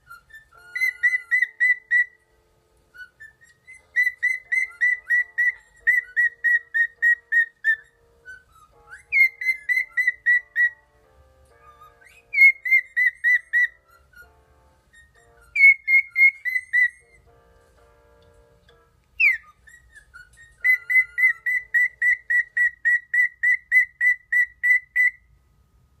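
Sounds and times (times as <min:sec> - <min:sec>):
cockatiel whistling: 0:00.0 - 0:02.2, 0:02.9 - 0:10.9, 0:11.5 - 0:17.3, 0:19.2 - 0:25.3.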